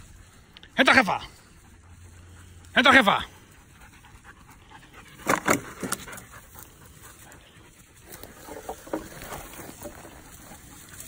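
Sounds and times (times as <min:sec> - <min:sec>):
movement through dry scrub: 0:00.0 - 0:11.0
dog panting: 0:01.1 - 0:09.0, 0:09.8 - 0:11.0.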